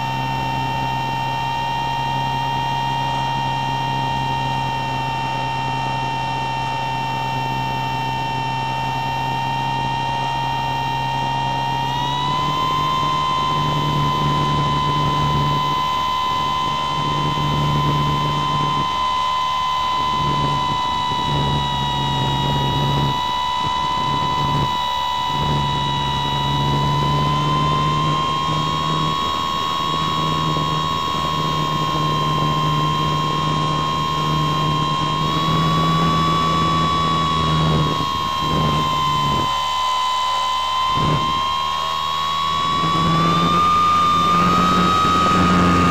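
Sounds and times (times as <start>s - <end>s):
small electric motor whine: 0.0s - 45.9s.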